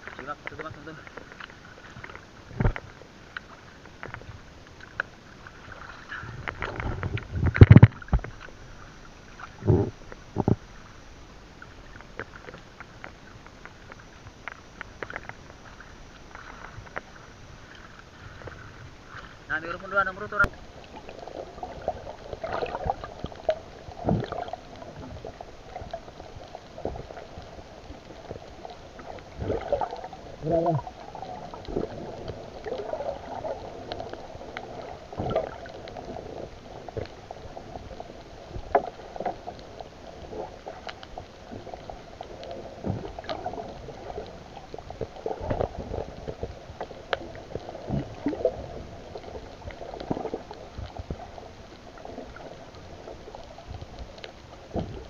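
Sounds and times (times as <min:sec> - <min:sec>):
underwater water sloshing: 0:00.0 - 0:55.0.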